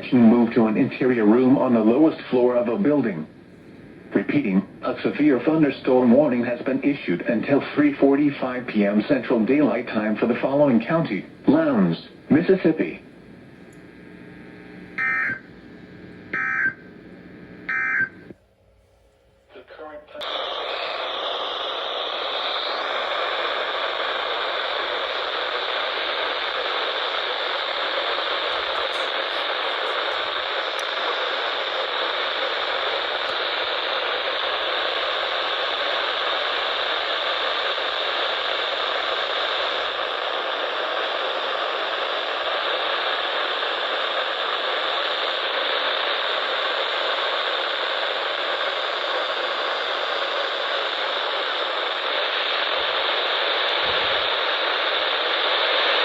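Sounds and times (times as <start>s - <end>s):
radio static hiss: 0.0s - 18.4s, 19.5s - 56.0s.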